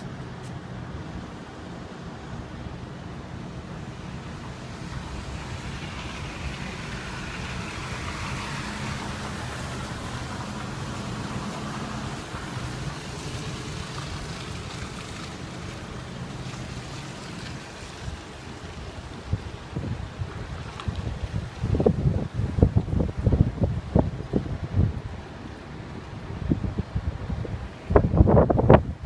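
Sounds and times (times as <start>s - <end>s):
vehicle engine humming: 0.0s - 27.6s
steady rushing noise: 0.0s - 29.0s.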